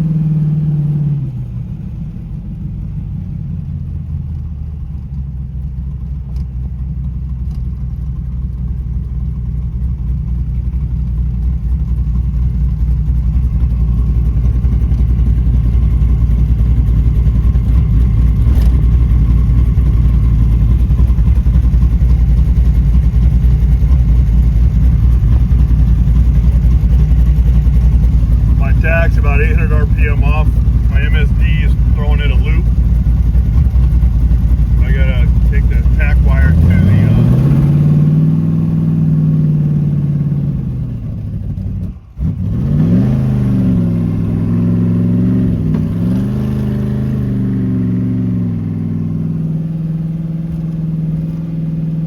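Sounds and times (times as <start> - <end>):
car engine running: 1.1 - 52.0.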